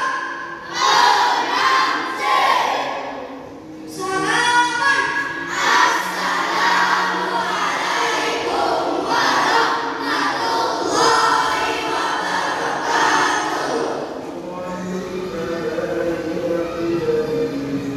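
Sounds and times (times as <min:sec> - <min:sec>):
children's choir singing: 0:00.0 - 0:17.9.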